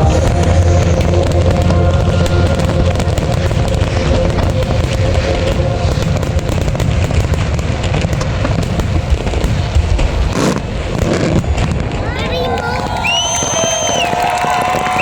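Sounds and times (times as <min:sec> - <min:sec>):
shell bursts rumbling: 0:00.0 - 0:12.1
fireworks crackling: 0:00.0 - 0:15.0
rushing firework burst: 0:00.0 - 0:15.0.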